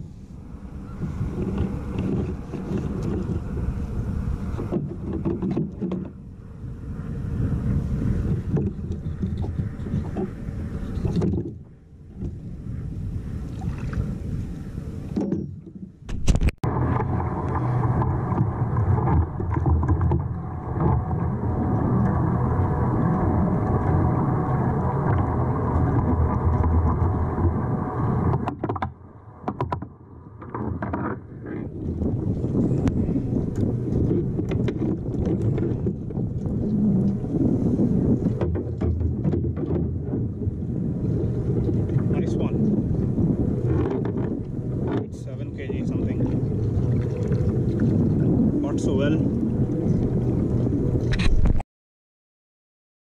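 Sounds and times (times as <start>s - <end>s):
water lapping against hull: 0.0s - 51.6s
wind buffeting microphone: 0.0s - 51.6s.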